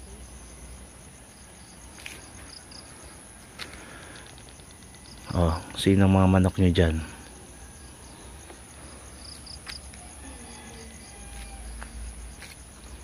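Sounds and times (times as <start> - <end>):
crickets chirping: 0.0 - 13.0
steady background hum: 0.0 - 13.0.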